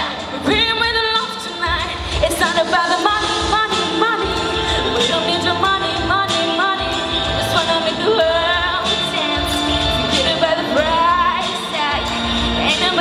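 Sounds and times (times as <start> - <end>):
girl singing into microphone: 0.0 - 13.0
recorded backing music with beat: 0.0 - 13.0.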